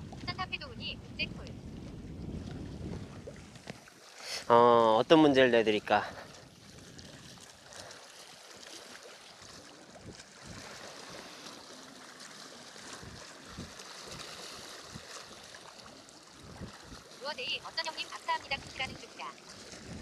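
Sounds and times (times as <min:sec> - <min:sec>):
waves lapping against rocks: 0:00.0 - 0:20.0.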